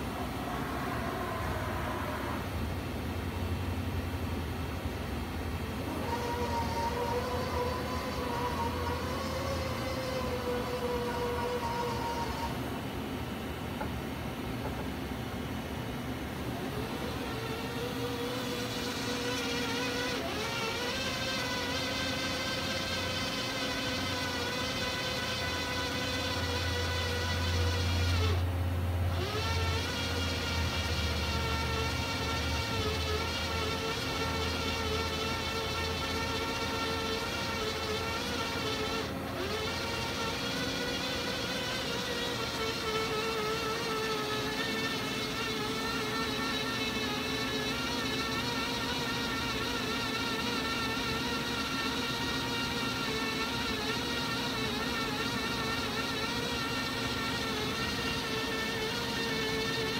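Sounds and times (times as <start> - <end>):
low machine hum: 0.0 - 59.9
electric motor whine: 5.7 - 12.7, 16.5 - 59.9.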